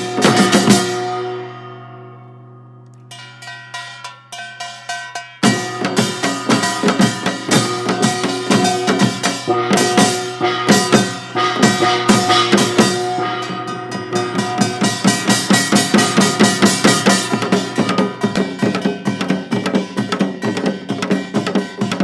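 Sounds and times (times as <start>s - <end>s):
live band with drum kit: 0.0s - 1.4s, 3.1s - 22.0s.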